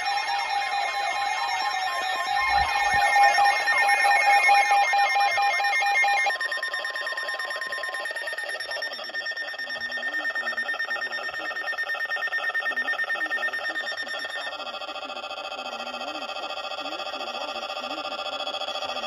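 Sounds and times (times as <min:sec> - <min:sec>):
pulsing two-tone beep: 0:00.0 - 0:19.0
rapid repeated beeping: 0:00.0 - 0:19.0
steady warning tone: 0:00.0 - 0:19.0.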